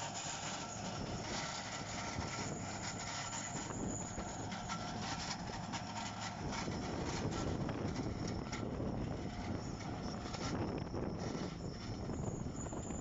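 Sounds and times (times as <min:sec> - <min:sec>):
diesel engine running under load: 0:00.0 - 0:13.0
ripper scraping through earth: 0:00.0 - 0:13.0.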